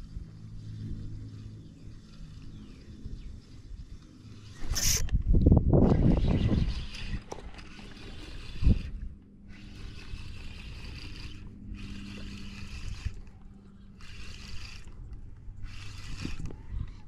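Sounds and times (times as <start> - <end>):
fishing reel whirring: 0.0 - 5.1, 5.8 - 17.0.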